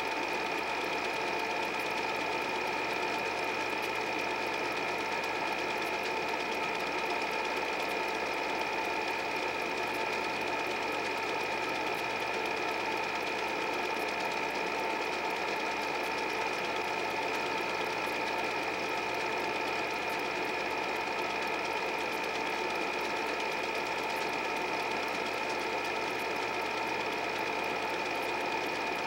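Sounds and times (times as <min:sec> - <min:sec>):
film projector whirring: 0:00.0 - 0:29.0.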